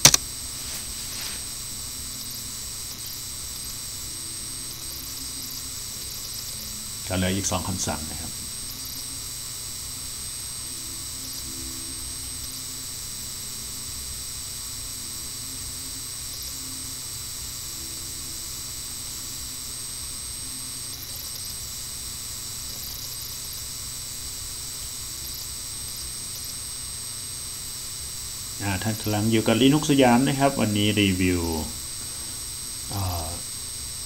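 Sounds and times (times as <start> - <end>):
background hiss: 0.0 - 14.1, 14.8 - 34.0
thin high whine: 0.0 - 34.0.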